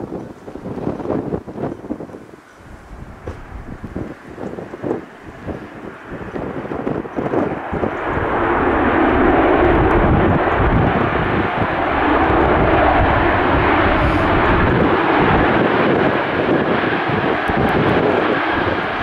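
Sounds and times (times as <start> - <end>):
jet engines at high thrust: 0.0 - 19.0.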